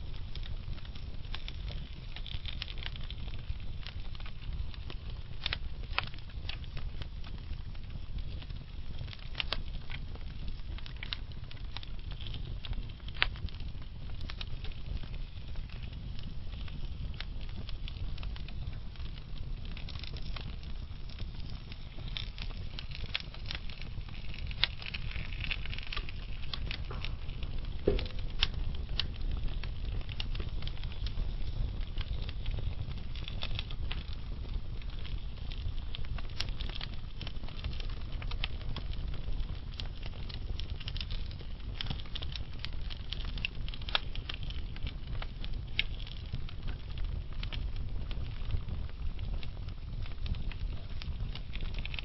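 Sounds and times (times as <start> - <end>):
flame rumble: 0.0 - 52.0
wood fire crackling: 0.0 - 52.0.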